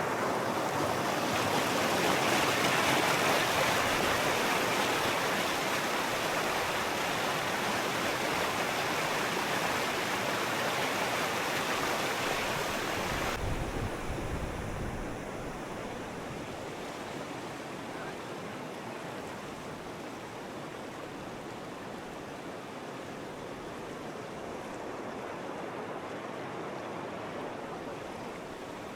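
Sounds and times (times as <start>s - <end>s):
river rushing: 0.0s - 28.9s.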